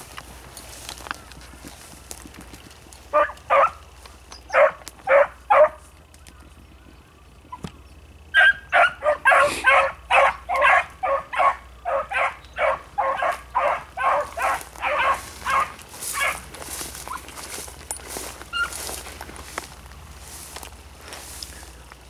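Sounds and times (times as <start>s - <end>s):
hounds baying: 0.9s - 19.7s.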